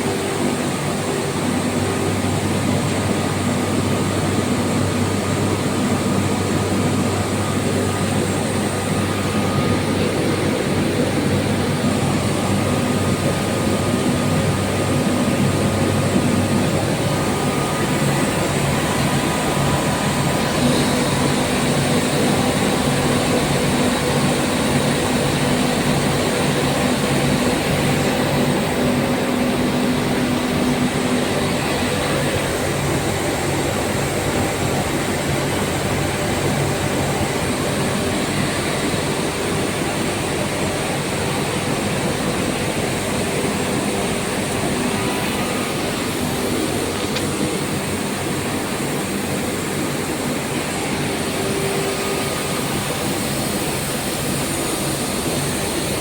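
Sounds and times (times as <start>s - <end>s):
air compressor running: 0.0s - 56.0s.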